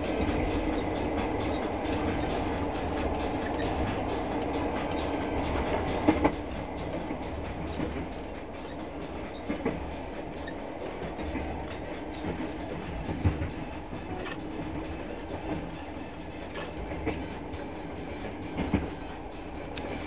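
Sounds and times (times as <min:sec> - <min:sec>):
train carriage rumble: 0:00.0 - 0:20.0
wheel clacks over rail joints: 0:00.0 - 0:20.0.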